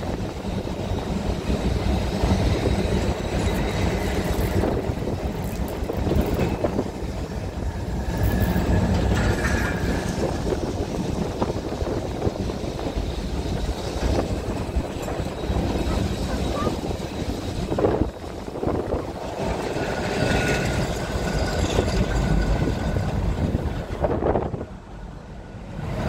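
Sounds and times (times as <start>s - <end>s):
tram wheels and motors rumbling: 0.0s - 26.0s
wind buffeting microphone: 0.0s - 26.0s.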